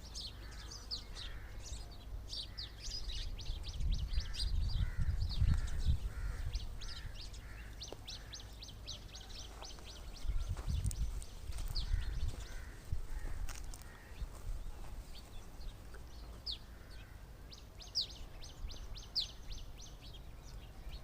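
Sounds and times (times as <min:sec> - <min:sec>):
lower rasping bird calls: 0:00.0 - 0:21.0
small birds chirping: 0:00.0 - 0:21.0.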